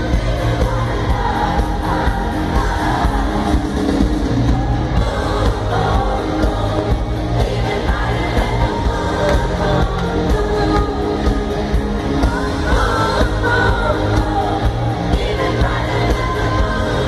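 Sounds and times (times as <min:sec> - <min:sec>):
woman singing pop music: 0:00.0 - 0:17.0.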